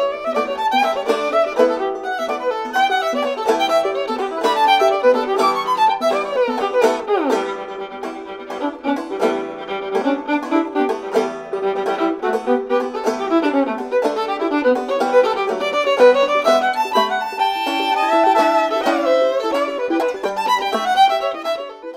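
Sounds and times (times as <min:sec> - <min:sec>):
banjo plucking: 0:00.0 - 0:21.9
fiddle playing: 0:00.0 - 0:21.9.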